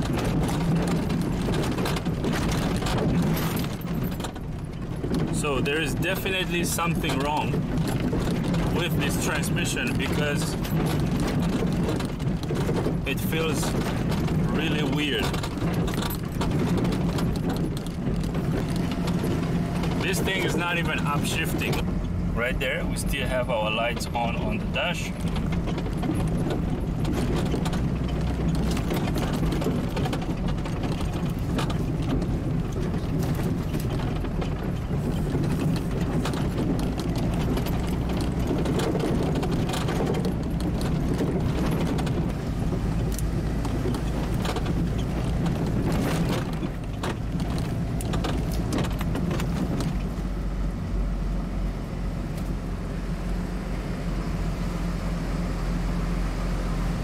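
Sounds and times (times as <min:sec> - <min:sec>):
clicks and rattles in cab: 0:00.0 - 0:50.8
diesel truck engine running: 0:00.0 - 0:57.0.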